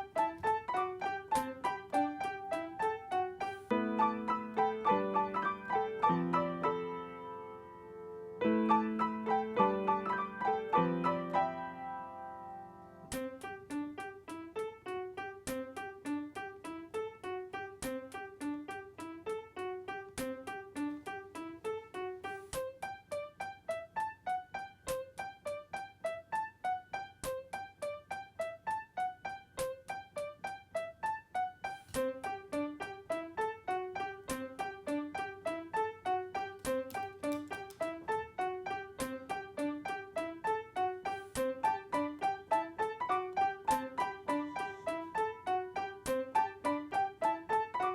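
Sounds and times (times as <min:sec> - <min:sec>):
regular ticking beat: 0:00.0 - 0:06.2, 0:13.1 - 0:47.9
piano music: 0:00.0 - 0:47.9.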